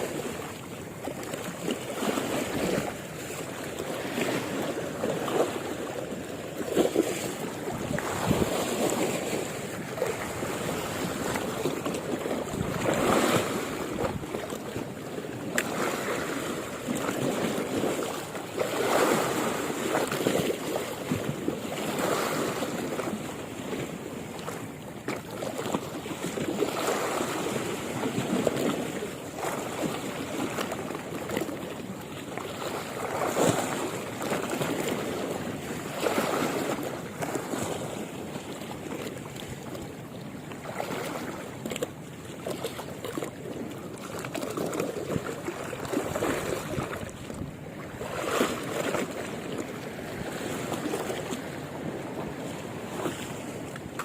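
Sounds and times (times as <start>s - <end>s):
sea waves washing: 0.0s - 54.0s.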